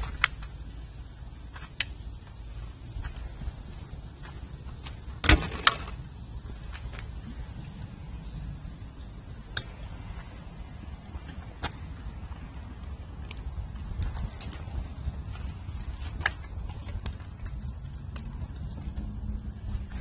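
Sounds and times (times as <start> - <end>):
charcoal crackling and popping: 0.0 - 20.0
steady low rumble: 0.0 - 20.0.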